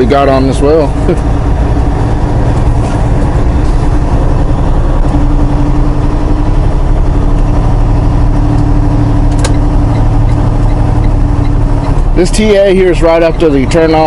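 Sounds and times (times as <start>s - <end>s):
truck diesel engine rumbling: 0.0s - 14.0s.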